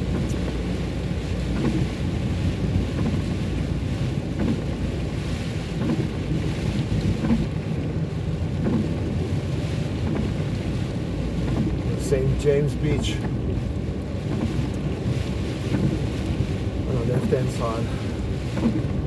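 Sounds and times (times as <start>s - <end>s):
car driving on wet road: 0.0s - 19.0s.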